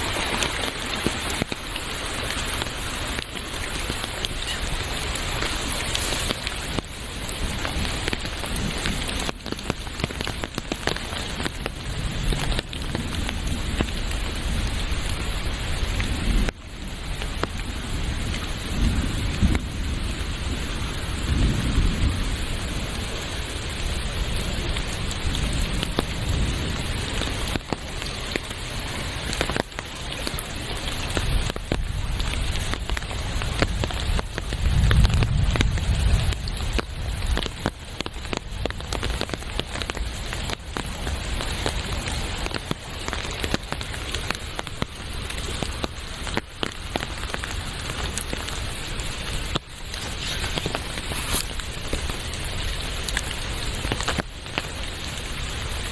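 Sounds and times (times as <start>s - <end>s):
rain drops pattering: 0.0s - 55.9s.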